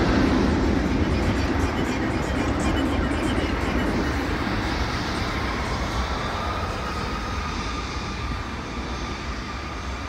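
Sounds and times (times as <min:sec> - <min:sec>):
highway traffic rumble: 0:00.0 - 0:10.0
steady high whine: 0:00.0 - 0:10.0.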